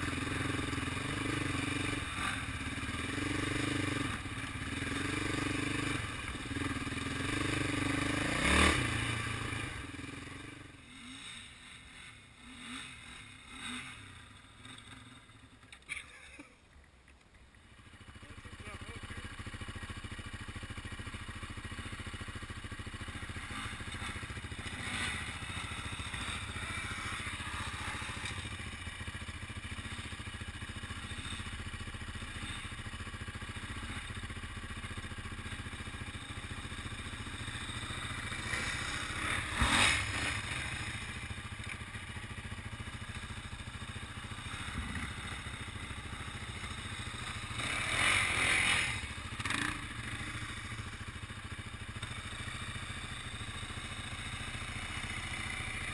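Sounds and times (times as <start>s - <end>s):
quad engine passing by: 0.0s - 16.5s, 17.8s - 55.9s
atv engine idling: 0.0s - 55.9s.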